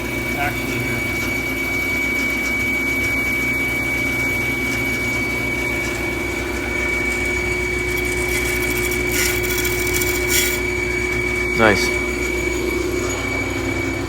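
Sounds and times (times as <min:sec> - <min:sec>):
bandsaw motor hum: 0:00.0 - 0:14.0
high steady whistle: 0:00.0 - 0:14.0.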